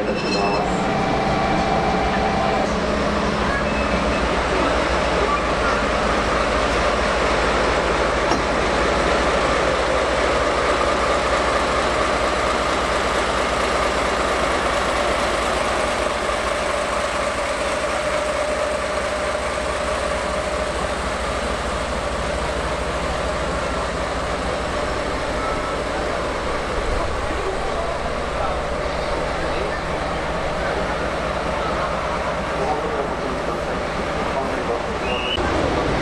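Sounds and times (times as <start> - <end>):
diesel locomotive idling: 0.0 - 36.0.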